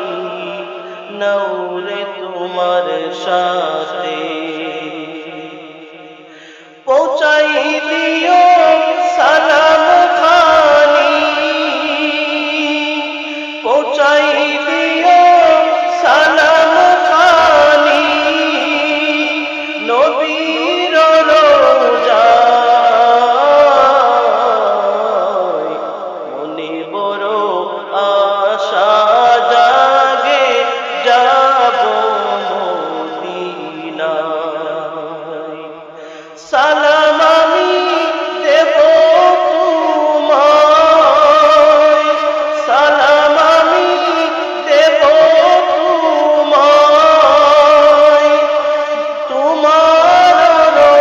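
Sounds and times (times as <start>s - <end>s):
man singing ornamented phrases: 0.0s - 51.0s.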